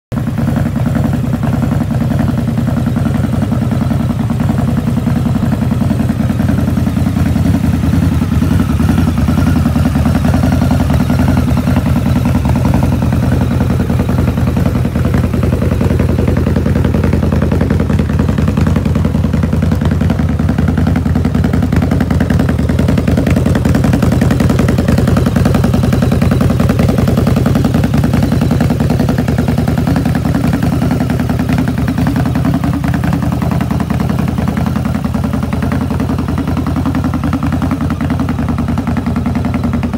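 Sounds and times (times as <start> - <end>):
motorcycle engine idling: 0.1 - 39.9.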